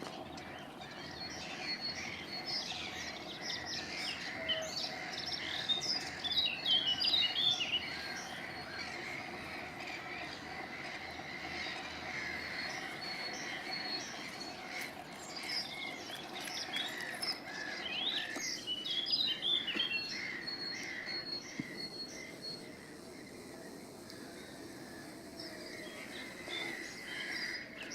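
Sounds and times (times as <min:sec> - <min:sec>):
birds chirping: 0:00.0 - 0:27.9
outdoor background hum: 0:00.0 - 0:27.9.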